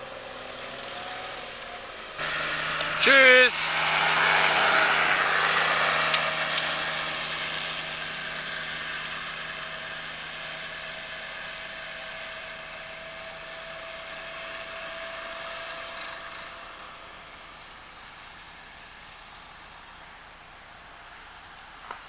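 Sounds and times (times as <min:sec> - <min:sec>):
vehicle engine driving past: 0:00.0 - 0:18.4.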